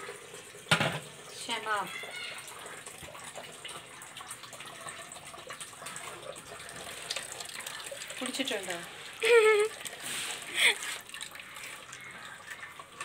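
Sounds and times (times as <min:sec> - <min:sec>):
liquid running and splashing: 0:00.0 - 0:13.0.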